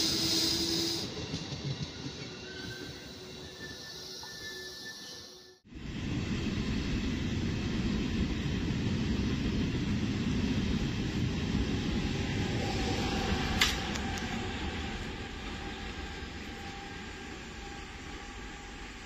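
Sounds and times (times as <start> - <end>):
train rumbling past: 0.0 - 5.1, 5.7 - 19.0.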